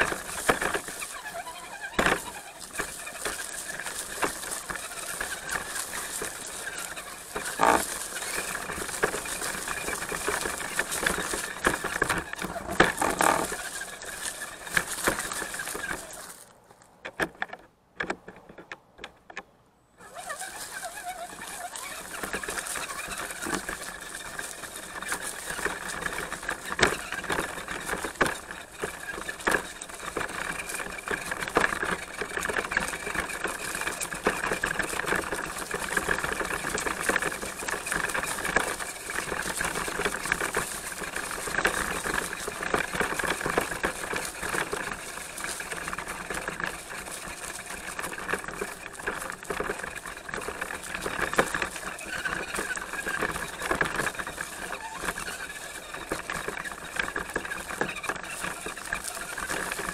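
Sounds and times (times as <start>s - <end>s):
electric motor and gears whining: 0.0s - 16.4s, 20.0s - 59.9s
tyres clicking on stones: 0.0s - 59.9s.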